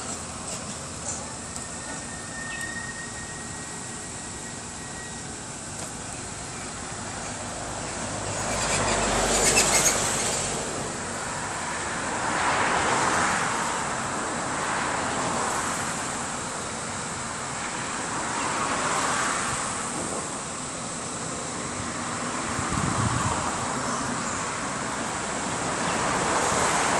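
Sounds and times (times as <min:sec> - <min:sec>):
road traffic passing: 0:00.0 - 0:26.9.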